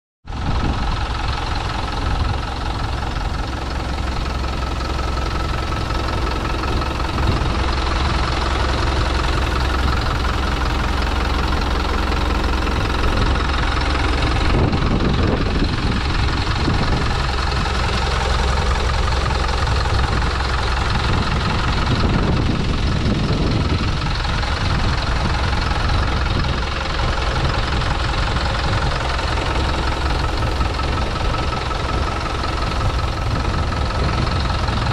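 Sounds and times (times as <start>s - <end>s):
diesel engine idling with clatter: 0.2s - 34.9s.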